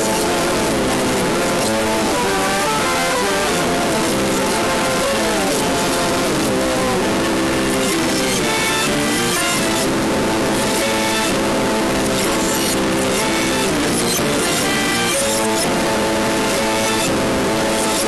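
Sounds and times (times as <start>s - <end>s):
radio static hiss: 0.0s - 18.0s
reversed music notes: 0.0s - 18.0s.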